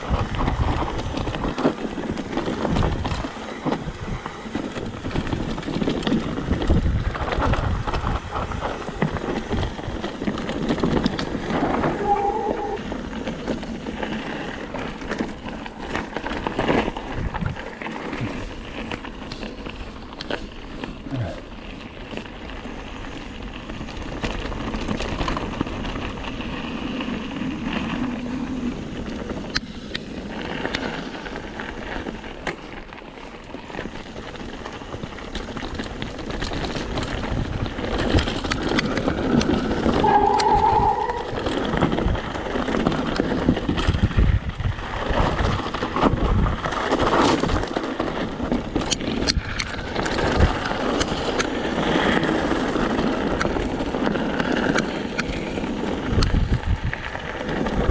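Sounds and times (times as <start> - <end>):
bike rattling over bumps: 0.0 - 57.9
bike tyres rolling over stones: 0.0 - 57.9.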